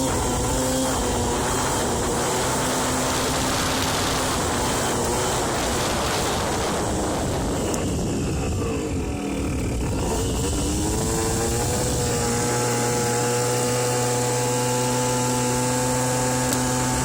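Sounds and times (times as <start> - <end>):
scooter engine running: 0.0 - 17.0
wind rush on microphone: 0.0 - 17.0.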